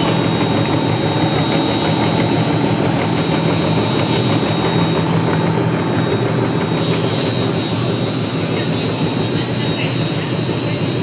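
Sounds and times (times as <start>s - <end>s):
production line machinery running: 0.0s - 11.0s.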